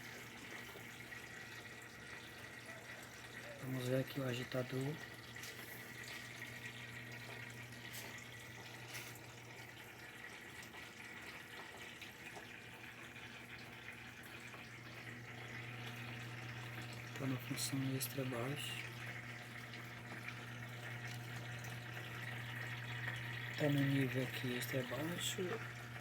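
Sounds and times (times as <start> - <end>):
water running into tub: 0.0 - 26.0.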